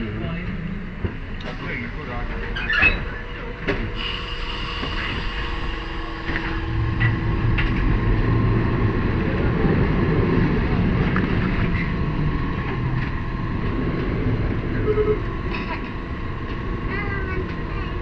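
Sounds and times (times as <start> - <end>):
tram rumbling and rattling: 0.0 - 18.0.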